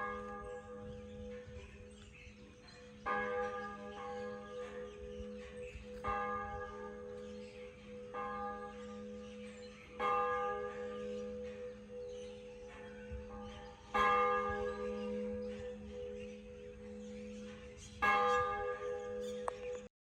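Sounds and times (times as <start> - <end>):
church bell tolling: 0.0 - 19.9.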